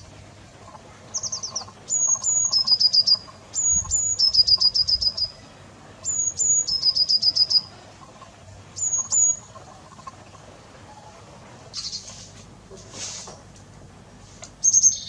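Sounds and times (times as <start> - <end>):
small songbird singing: 0.0 - 12.1, 14.5 - 15.0.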